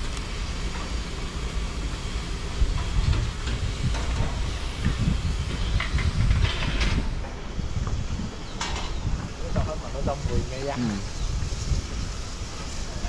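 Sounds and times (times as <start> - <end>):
low uneven rumble: 0.0 - 13.0
steam hissing: 0.0 - 13.0.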